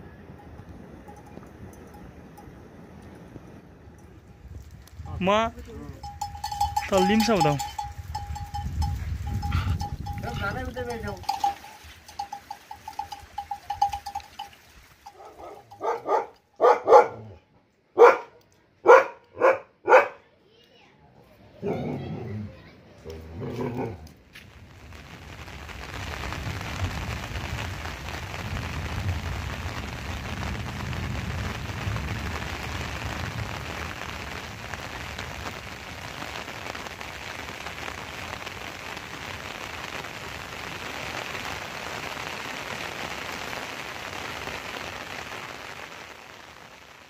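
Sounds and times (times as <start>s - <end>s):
rain falling on foliage: 0.0s - 16.6s, 23.1s - 47.0s.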